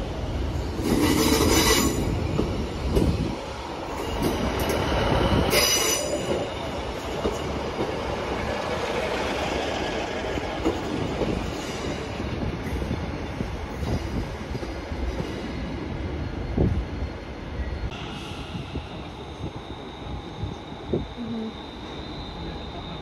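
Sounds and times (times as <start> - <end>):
train rumbling: 0.0 - 23.0
train wheels squealing: 0.6 - 3.2, 3.8 - 23.0.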